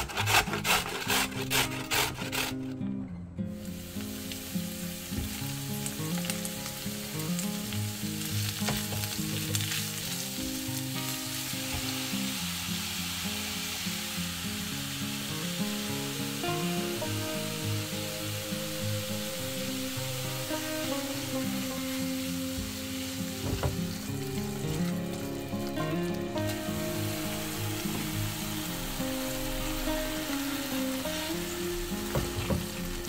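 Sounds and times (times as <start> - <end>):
soft background music: 0.0 - 33.0
vegetables sizzling in oil: 3.6 - 33.0.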